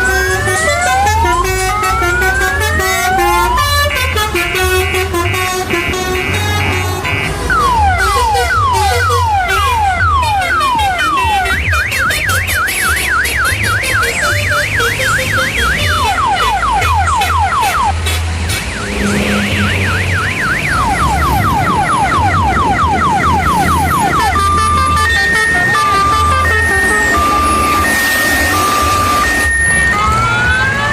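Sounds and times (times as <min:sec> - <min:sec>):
electronic siren wailing: 0:00.0 - 0:04.2, 0:05.7 - 0:18.0, 0:18.7 - 0:30.9.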